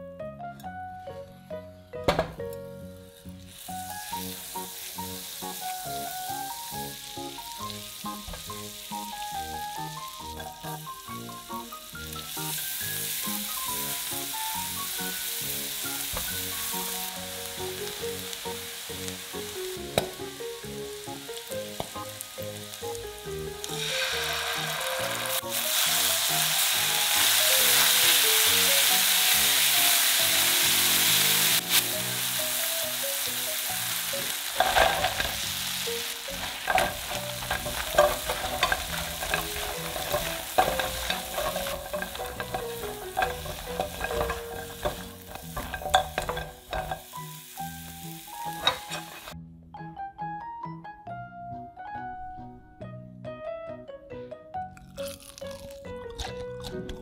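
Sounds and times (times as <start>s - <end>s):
garlic sizzling in a frying pan: 1.8s - 49.4s.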